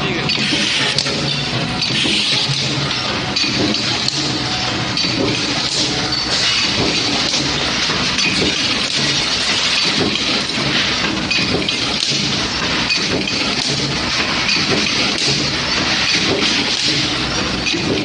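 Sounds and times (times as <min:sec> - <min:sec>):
metal clatter of forging line: 0:00.0 - 0:18.0
forging press strokes: 0:00.2 - 0:17.8.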